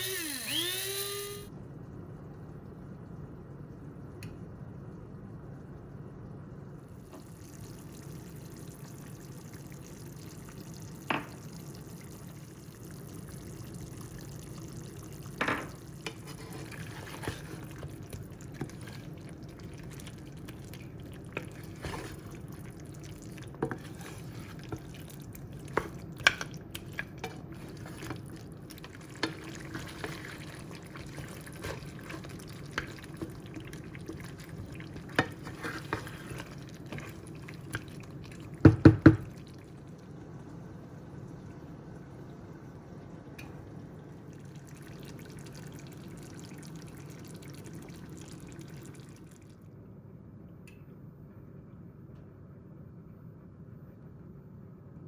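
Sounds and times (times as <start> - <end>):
curry bubbling in a pot: 1.5 - 49.6.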